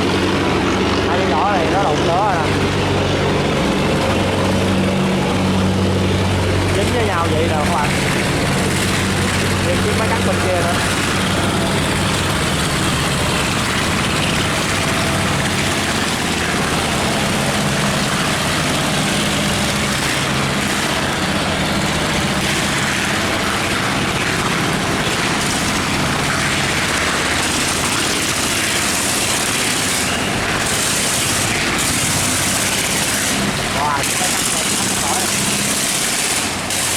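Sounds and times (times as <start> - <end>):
boat diesel engines running: 0.0 - 36.9.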